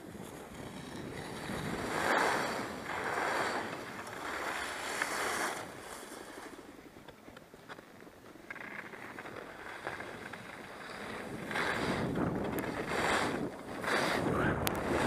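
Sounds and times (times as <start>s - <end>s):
wind on microphone: 0.0s - 7.0s, 9.5s - 15.0s
skis scraping over snow: 0.0s - 15.0s.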